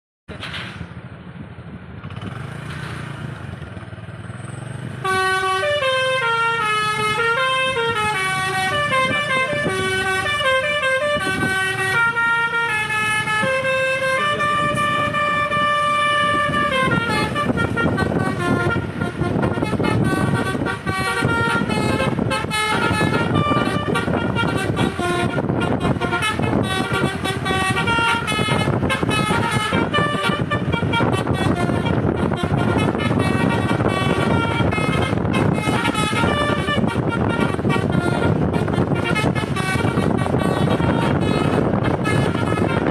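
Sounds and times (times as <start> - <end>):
vehicle engine rumble: 0.3 - 42.9
musical air horn melody: 5.0 - 42.9.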